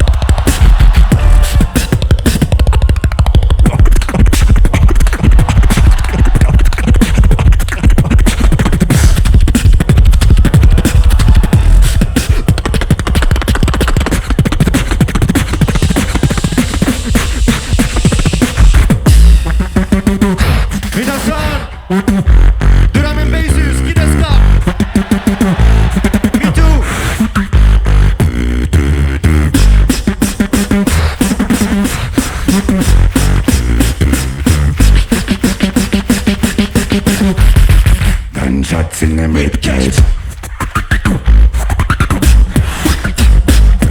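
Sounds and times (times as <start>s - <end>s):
beatboxing through a speaker: 0.0s - 43.9s.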